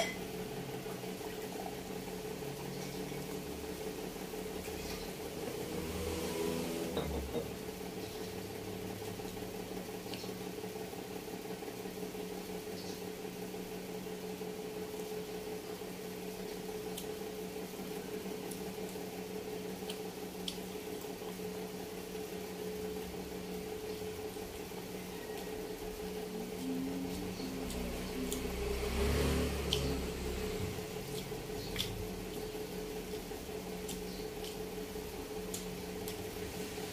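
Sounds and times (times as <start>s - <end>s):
appliance humming: 0.0s - 36.9s.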